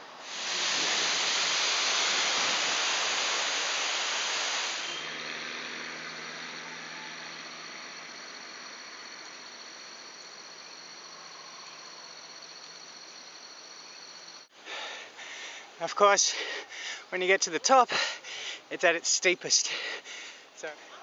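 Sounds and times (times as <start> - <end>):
insects whining: 0.0 - 21.0.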